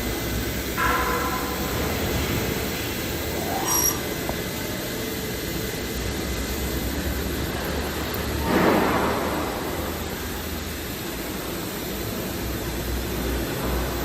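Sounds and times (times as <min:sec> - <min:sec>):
machinery running: 0:00.0 - 0:14.0.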